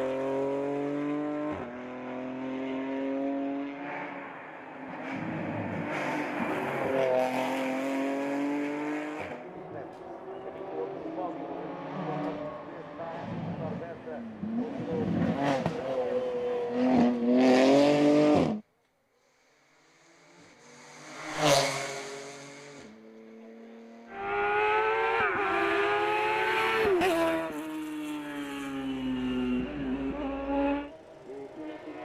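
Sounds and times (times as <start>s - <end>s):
race car engines at high revs: 0.0s - 18.7s, 19.7s - 32.0s.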